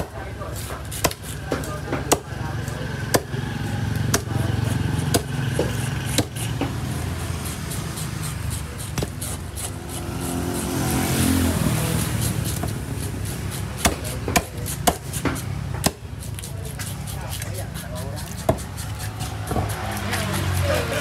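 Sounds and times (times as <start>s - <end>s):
cleaver chopping fish on wooden block: 0.0s - 21.0s.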